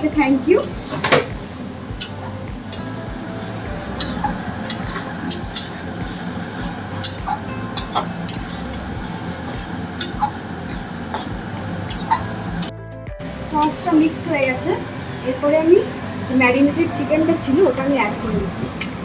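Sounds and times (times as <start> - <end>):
spatula scraping cooking pan: 0.0 - 12.7, 13.4 - 16.2, 17.2 - 19.0
steady low hum: 0.0 - 19.0.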